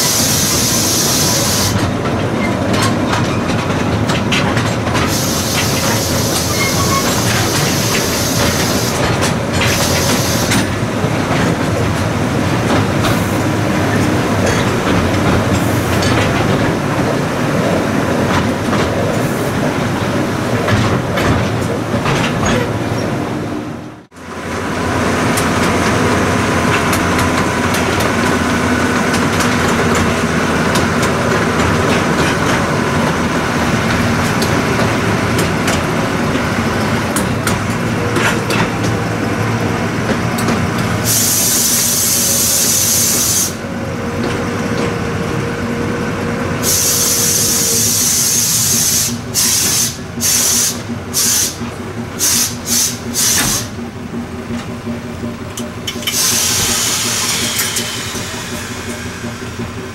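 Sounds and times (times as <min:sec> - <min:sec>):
wheels clicking over rail joints: 0:00.0 - 0:23.3, 0:25.2 - 0:45.6, 0:46.6 - 0:59.9
small locomotive engine: 0:00.0 - 0:59.9
train rolling rumble: 0:00.0 - 0:59.9.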